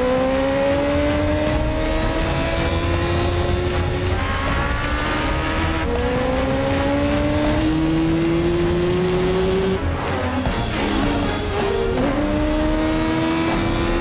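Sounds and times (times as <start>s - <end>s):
motorcycle engines at high revs: 0.0s - 14.0s.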